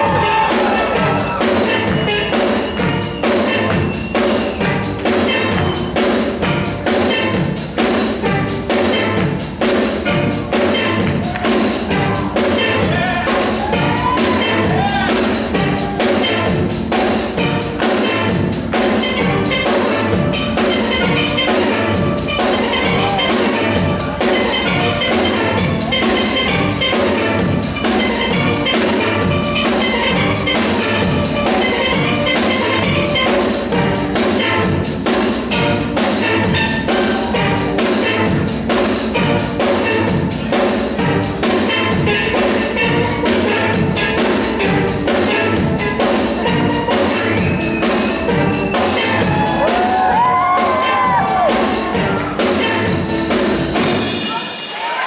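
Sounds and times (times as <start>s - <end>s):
drum kit beat: 0.0s - 55.0s.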